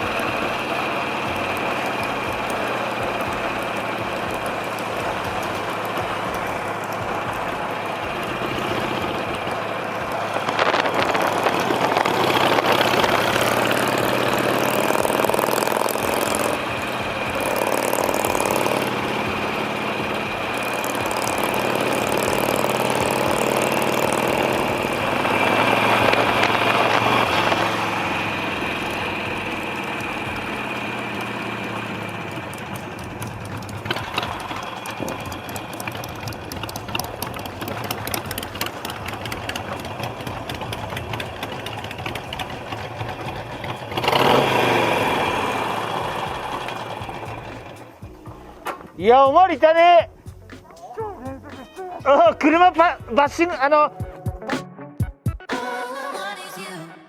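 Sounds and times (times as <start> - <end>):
wind and road noise: 0.0 - 53.8
motorcycle engine running: 0.0 - 55.3.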